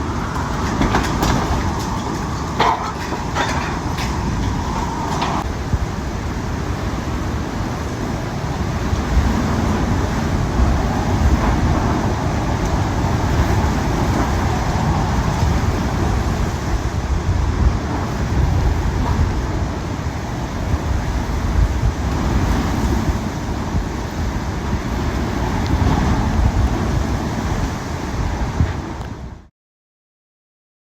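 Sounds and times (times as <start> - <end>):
gusting hurricane wind: 0.0 - 29.5.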